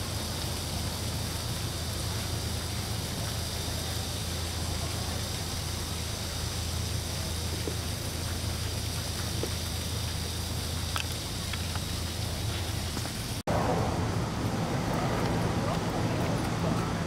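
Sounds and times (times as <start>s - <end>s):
constant low hum: 0.0s - 17.0s
moving vehicle rumble: 0.0s - 17.0s.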